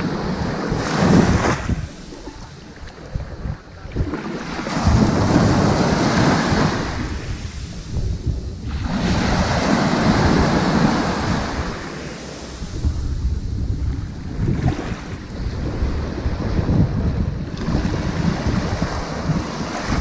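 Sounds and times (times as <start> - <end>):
ocean waves on sandy beach: 0.0 - 20.0.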